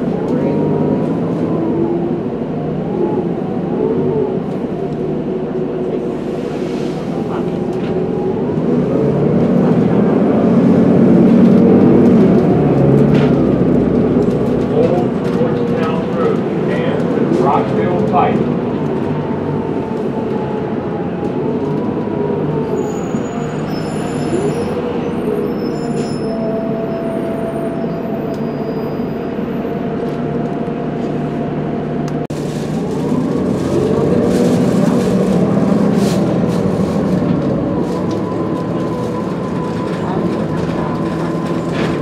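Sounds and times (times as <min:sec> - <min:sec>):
diesel bus running: 0:00.0 - 0:42.0.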